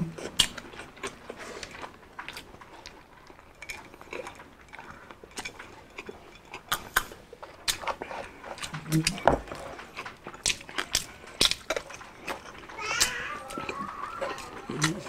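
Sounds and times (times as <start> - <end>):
crunching crispy fried food: 0.2 - 15.0.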